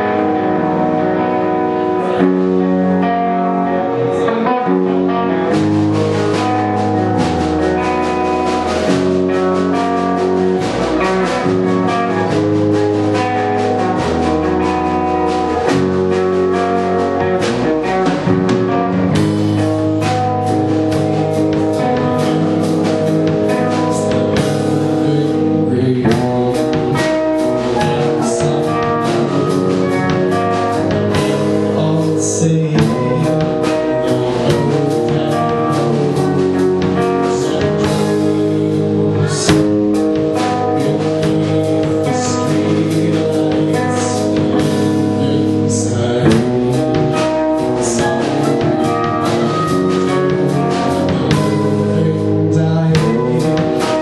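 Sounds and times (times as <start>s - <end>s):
person singing: 0.0s - 54.0s
rock band playing slow song: 0.0s - 54.0s.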